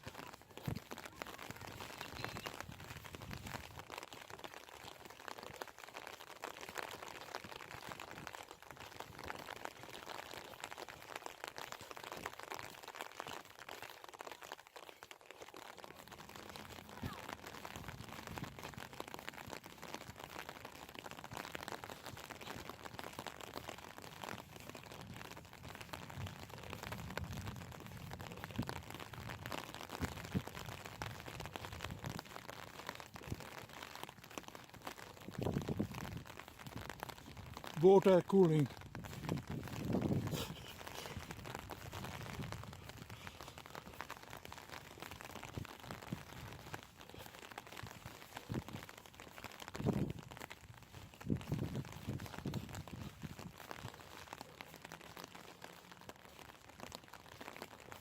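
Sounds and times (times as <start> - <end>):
footsteps: 0.0 - 58.0
light rain falling: 0.0 - 58.0.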